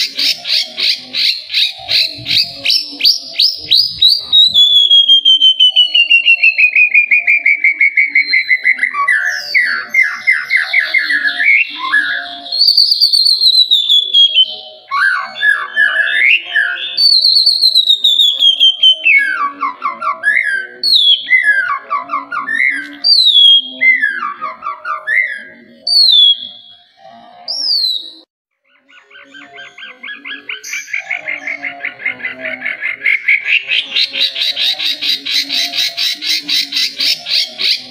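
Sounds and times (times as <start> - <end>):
bird singing whistled phrases: 0.0 - 31.7.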